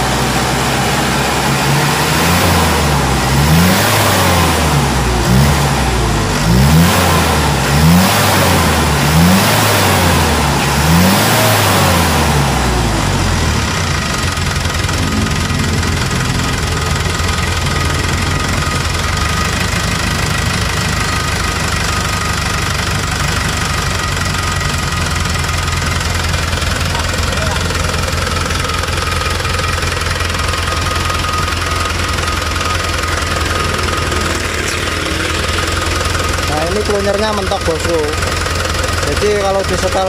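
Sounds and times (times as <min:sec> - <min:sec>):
diesel truck engine revving and idling: 0:00.0 - 0:40.0.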